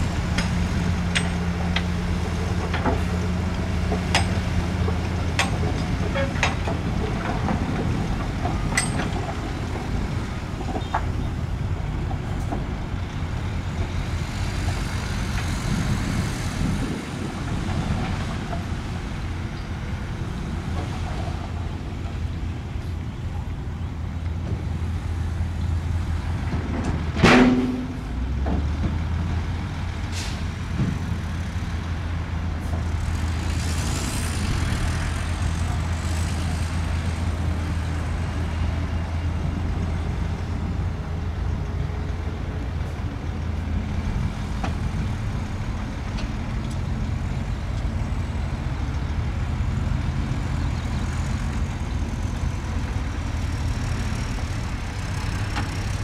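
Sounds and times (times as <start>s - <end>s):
diesel truck engines idling: 0.0s - 56.0s.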